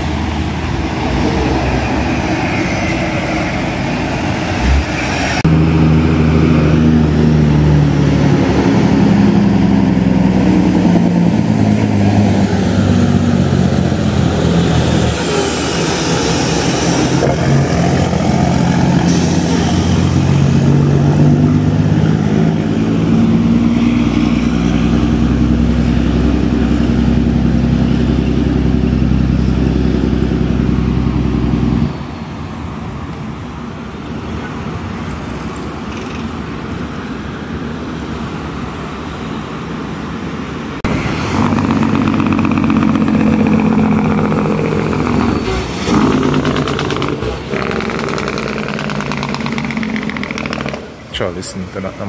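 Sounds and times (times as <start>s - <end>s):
diesel truck engine: 0.0s - 52.0s
road noise: 0.0s - 52.0s.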